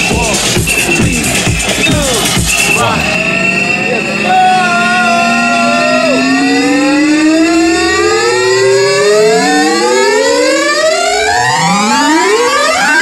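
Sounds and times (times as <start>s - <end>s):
rising synthesizer tone: 0.0s - 13.0s
steady high tone: 0.0s - 13.0s.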